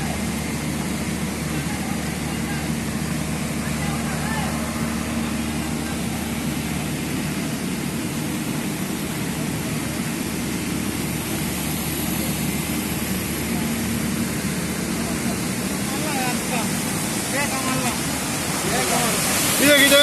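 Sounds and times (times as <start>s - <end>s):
water pump engine drone: 0.0s - 20.0s
water rushing: 0.0s - 20.0s.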